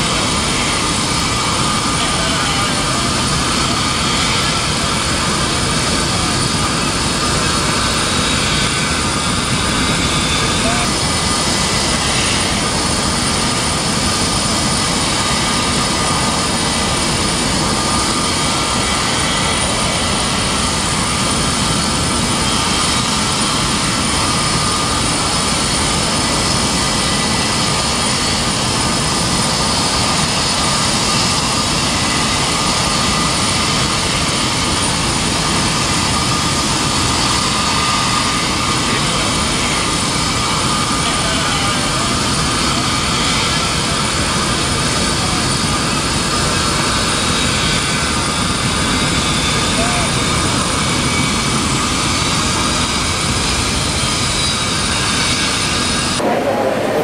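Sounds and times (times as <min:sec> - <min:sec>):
high turbine whine: 0:00.0 - 0:57.0
jet engines rushing: 0:00.0 - 0:57.0.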